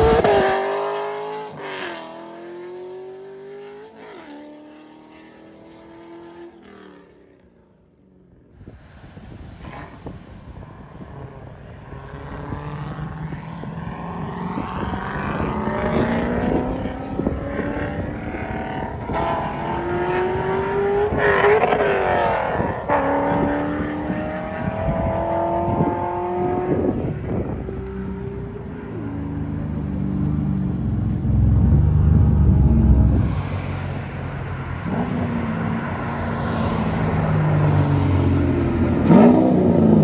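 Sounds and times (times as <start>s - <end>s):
car engine accelerating hard: 0.0s - 6.9s, 12.0s - 40.0s.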